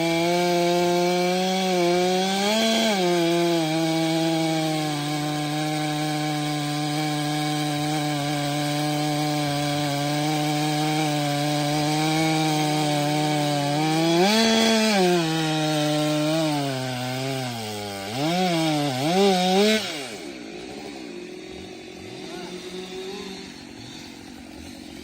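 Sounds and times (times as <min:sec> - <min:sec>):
chainsaw cutting firewood: 0:00.0 - 0:25.0.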